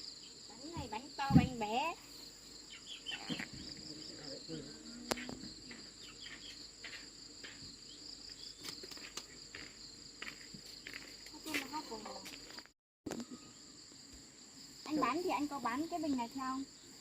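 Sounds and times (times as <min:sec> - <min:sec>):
insects shrilling: 0:00.0 - 0:17.0.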